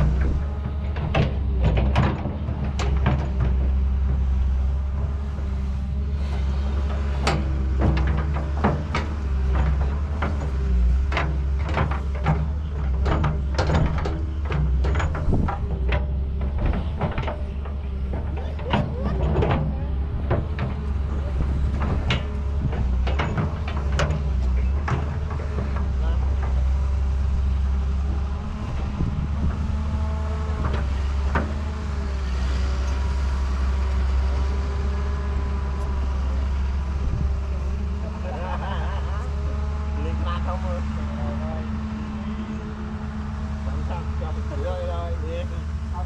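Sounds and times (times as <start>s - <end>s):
excavator engine hum: 0.0s - 46.0s
knocks and clanks: 0.0s - 46.0s.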